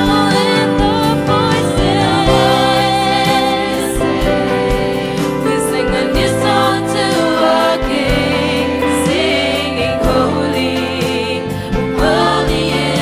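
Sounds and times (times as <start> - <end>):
accompaniment with steady beat: 0.0 - 13.0
youth choir singing gospel: 0.0 - 13.0.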